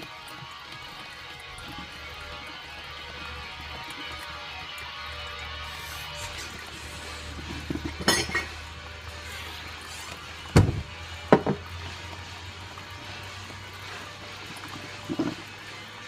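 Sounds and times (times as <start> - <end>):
coffee maker gurgling and sputtering: 0.0 - 16.0.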